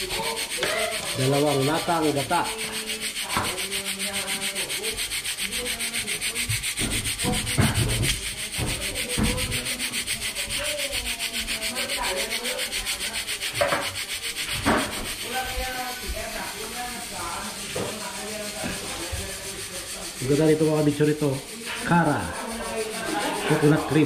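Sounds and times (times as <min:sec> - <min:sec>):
tin can being scraped: 0:00.0 - 0:24.0.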